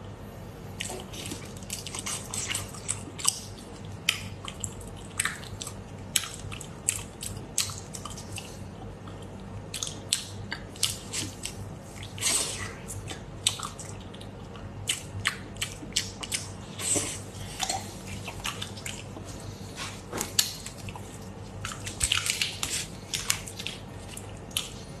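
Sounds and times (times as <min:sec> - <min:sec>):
chewing clicks and smacks: 0:00.8 - 0:19.3, 0:20.2 - 0:24.9.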